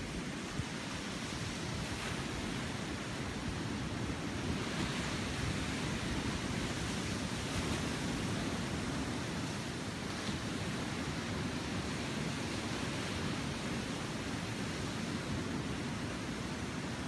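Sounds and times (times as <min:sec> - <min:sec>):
small waves breaking on beach: 0:00.0 - 0:17.0.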